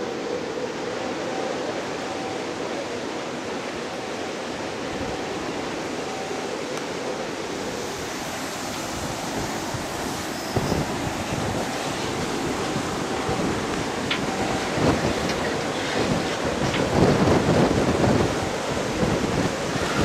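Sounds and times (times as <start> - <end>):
rushing wind: 0.0 - 20.0
wind buffeting microphone: 0.0 - 20.0.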